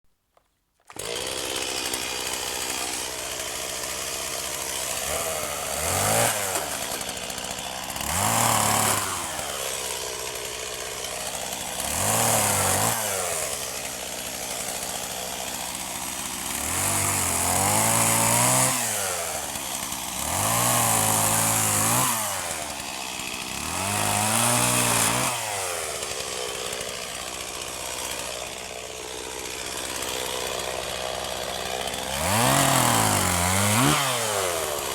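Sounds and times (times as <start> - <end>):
chainsaw revving and idling: 0.8 - 34.9.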